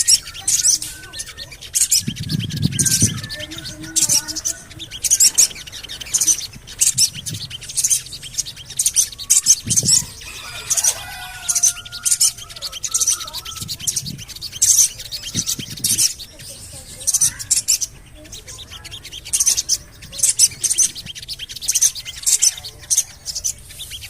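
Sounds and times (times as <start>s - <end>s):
bird chirping calls: 0.0s - 24.0s.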